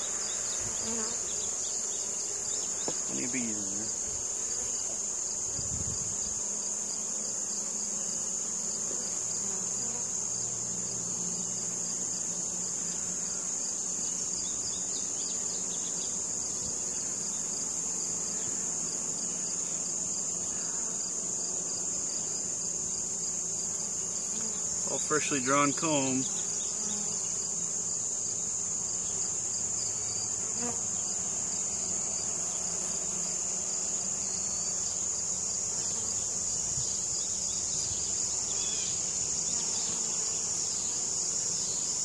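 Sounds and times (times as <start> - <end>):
high-pitched insect trill: 0.0 - 42.0
honeybees buzzing: 0.0 - 42.0.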